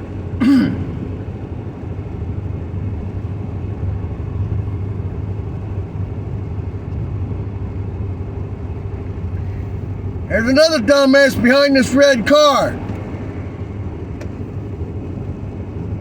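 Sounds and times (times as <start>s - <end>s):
car road noise rumble: 0.0s - 16.0s.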